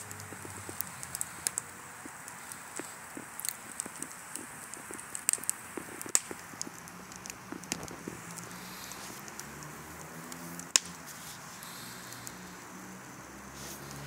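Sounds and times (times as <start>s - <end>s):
fire hissing: 0.0s - 14.0s
wood fire crackling and popping: 0.0s - 14.0s.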